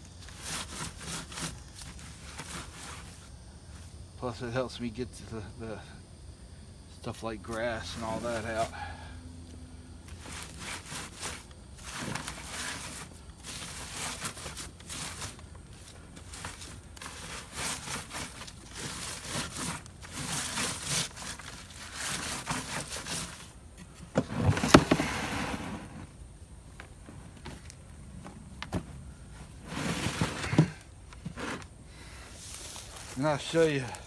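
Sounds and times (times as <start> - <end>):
soil scraping across sifting screen: 0.0 - 5.7, 7.0 - 9.1, 10.0 - 26.2, 29.3 - 34.0.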